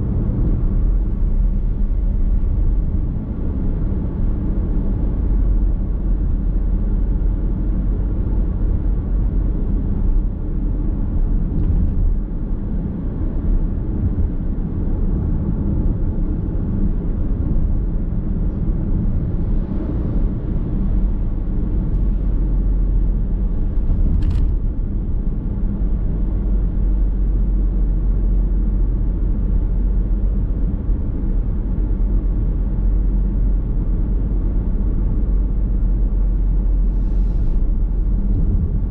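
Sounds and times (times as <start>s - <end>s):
car interior road rumble: 0.0s - 38.9s.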